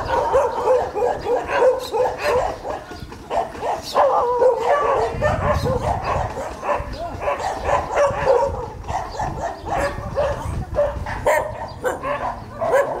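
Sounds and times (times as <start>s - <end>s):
dog barking and yipping: 0.0s - 13.0s.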